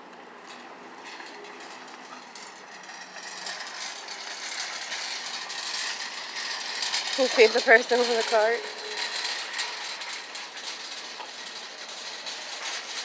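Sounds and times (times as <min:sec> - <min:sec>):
shopping cart rattling on hard floor: 0:00.5 - 0:13.0.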